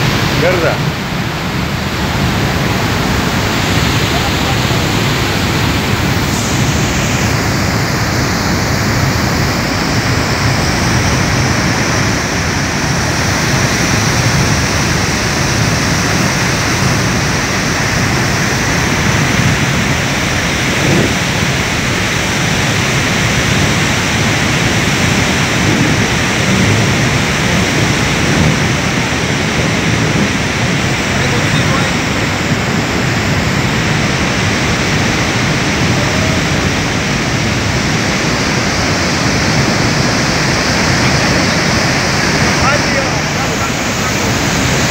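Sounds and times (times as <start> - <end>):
water rushing from outlet tunnel: 0.0 - 44.9.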